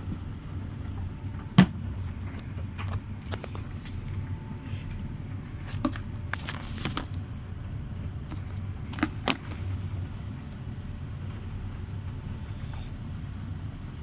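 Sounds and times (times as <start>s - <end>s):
tumble dryer humming: 0.0s - 14.0s.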